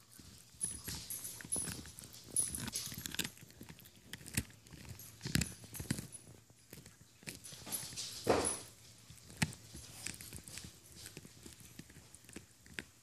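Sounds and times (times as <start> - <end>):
dog chewing a bone: 0.0 - 13.0.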